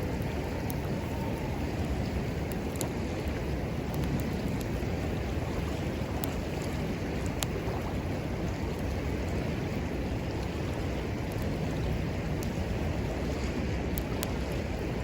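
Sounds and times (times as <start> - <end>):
river rushing: 0.0 - 15.0
wood fire crackling: 0.0 - 15.0.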